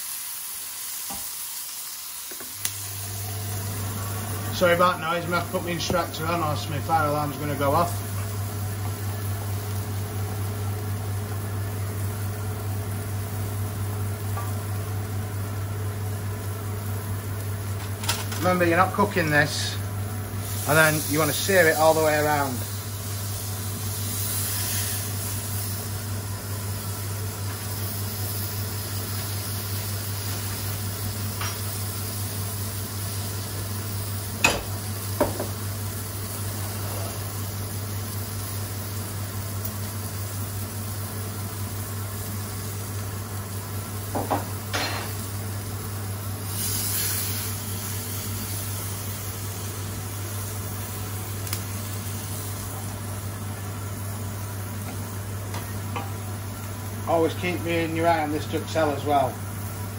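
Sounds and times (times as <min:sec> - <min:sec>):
meat sizzling in a frying pan: 0:00.0 - 0:59.9
extractor fan hum: 0:02.3 - 0:59.9.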